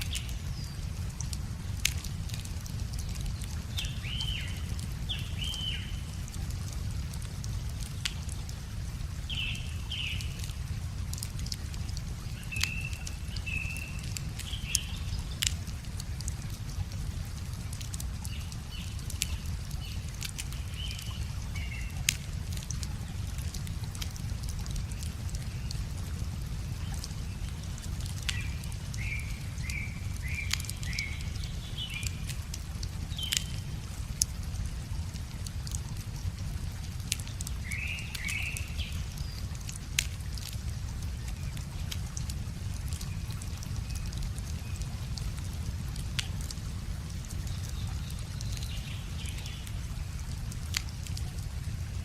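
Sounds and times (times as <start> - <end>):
songbird chirping: 0.0 - 34.6, 35.4 - 41.9, 47.0 - 51.6
low steady rumble: 0.0 - 52.0
river water running: 0.0 - 52.0
wood fire crackling and popping: 0.0 - 52.0.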